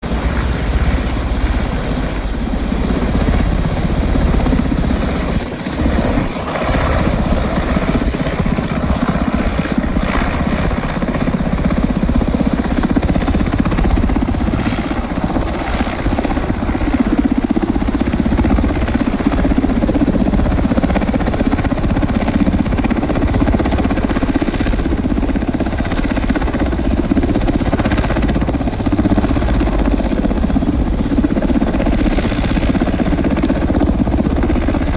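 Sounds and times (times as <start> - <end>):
helicopter rotor chopping: 0.0 - 34.9.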